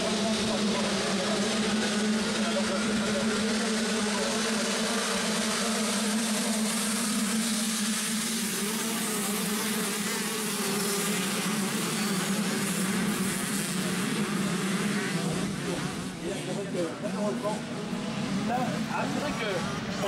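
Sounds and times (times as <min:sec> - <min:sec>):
motocross bike engines buzzing: 0:00.0 - 0:20.0.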